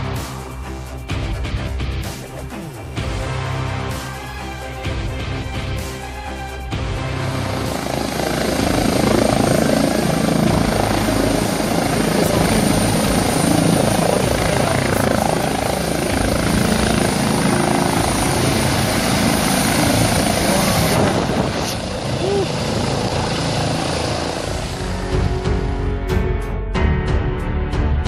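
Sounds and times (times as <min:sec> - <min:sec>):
helicopter rotor and turbine whine: 0:00.0 - 0:26.1
music: 0:00.0 - 0:28.0.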